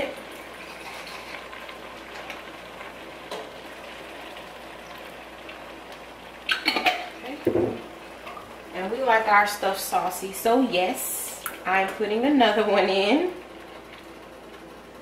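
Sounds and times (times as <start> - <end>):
food sizzling in a pot: 0.0 - 14.4.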